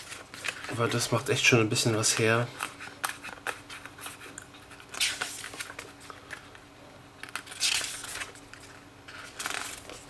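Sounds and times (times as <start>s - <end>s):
paper pages turning: 0.0s - 6.4s, 7.2s - 10.0s
paper rustling: 0.0s - 6.4s, 7.2s - 10.0s.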